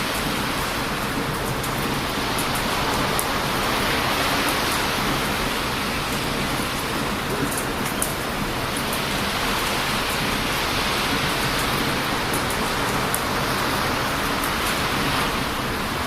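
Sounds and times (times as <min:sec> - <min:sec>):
bonfire crackling: 0:00.0 - 0:16.0
surf breaking on a beach: 0:00.0 - 0:16.0.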